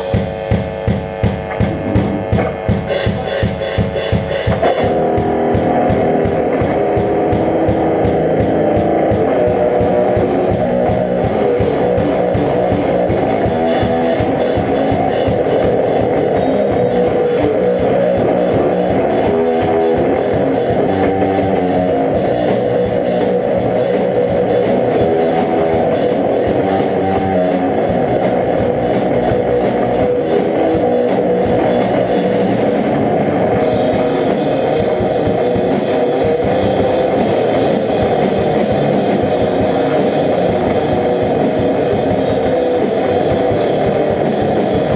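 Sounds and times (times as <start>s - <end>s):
drum kit: 0.0s - 44.9s
guitars: 0.0s - 44.9s.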